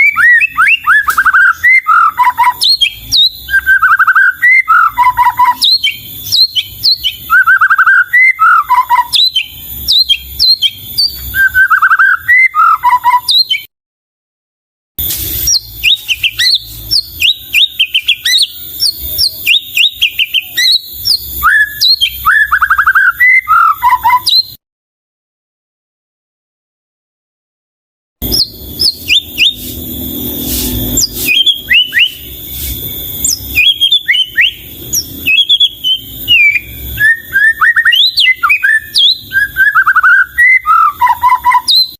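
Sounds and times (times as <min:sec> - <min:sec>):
sharp high bird chirps: 0:00.0 - 0:13.7, 0:15.0 - 0:24.6, 0:28.2 - 0:41.9.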